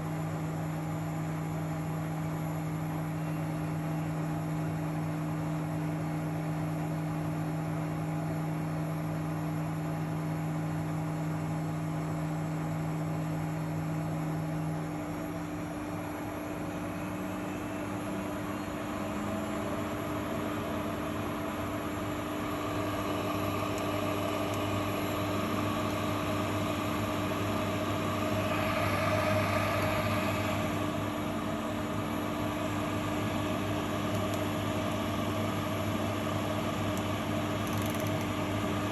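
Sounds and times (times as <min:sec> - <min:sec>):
washing machine spinning: 0:03.6 - 0:38.9.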